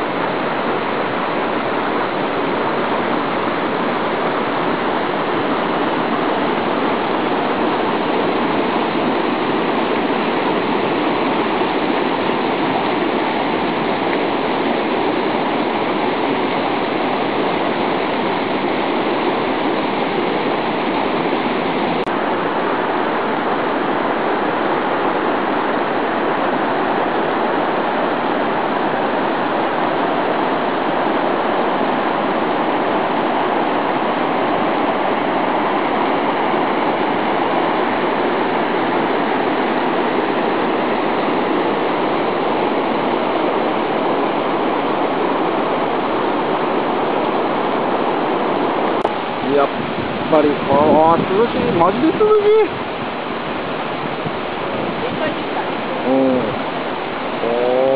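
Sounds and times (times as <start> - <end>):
waterfall rushing into pool: 0.0 - 57.9.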